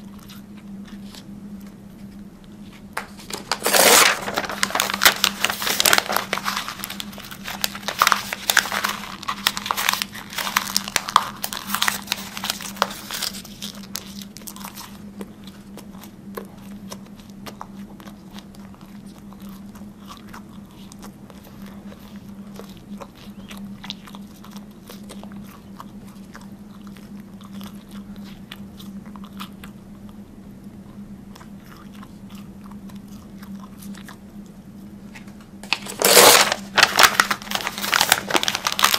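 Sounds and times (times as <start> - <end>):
mouth chewing paper: 0.0 - 38.9
steady low hum: 0.0 - 38.9.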